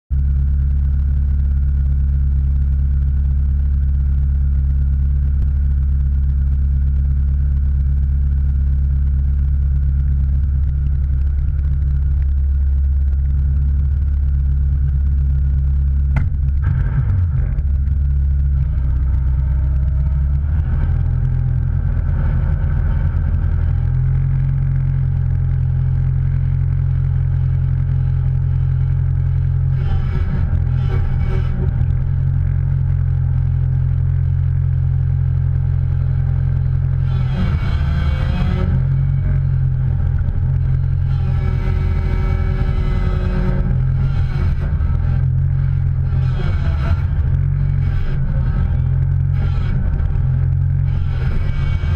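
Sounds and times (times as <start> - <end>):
vehicle engine droning: 0.0 - 51.9.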